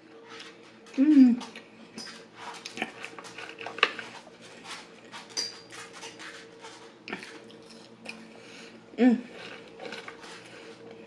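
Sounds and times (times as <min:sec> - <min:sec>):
chewing and mouth sounds: 0:00.3 - 0:05.4, 0:06.0 - 0:08.4, 0:09.3 - 0:11.0.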